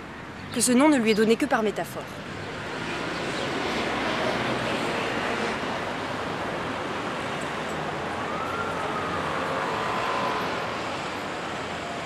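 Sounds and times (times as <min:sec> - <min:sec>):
city road traffic: 0:00.0 - 0:12.0.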